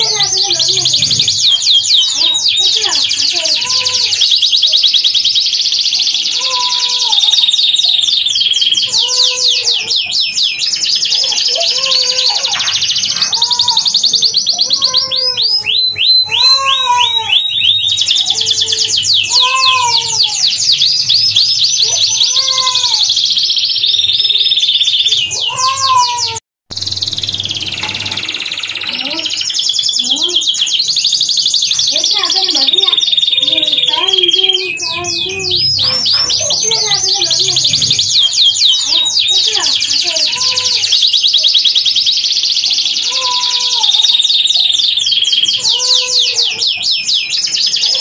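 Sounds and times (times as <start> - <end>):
canary singing trills: 0.0 - 48.0.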